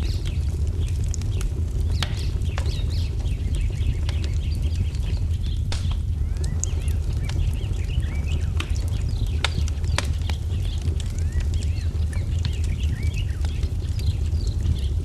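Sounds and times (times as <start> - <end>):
low fire rumble: 0.0 - 15.0
small birds chirping: 0.0 - 15.0
wood fire crackling and popping: 0.0 - 15.0.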